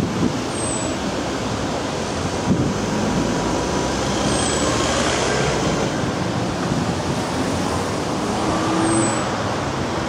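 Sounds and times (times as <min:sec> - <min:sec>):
vehicles driving past: 0:00.0 - 0:10.0.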